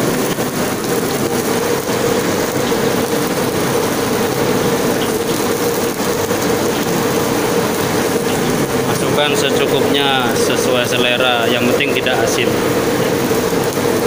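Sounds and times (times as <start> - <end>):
broth boiling: 0.0 - 14.0
constant hum: 0.0 - 14.0
gas stove burner roaring: 0.0 - 14.0.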